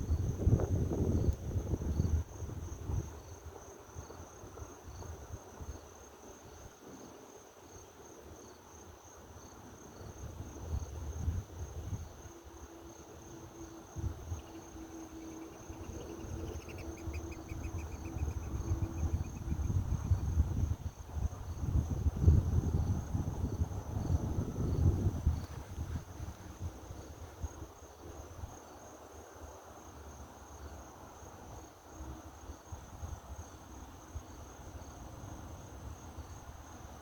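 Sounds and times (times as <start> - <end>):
faint steady hum: 0.0 - 37.0
insects chirping: 0.0 - 37.0.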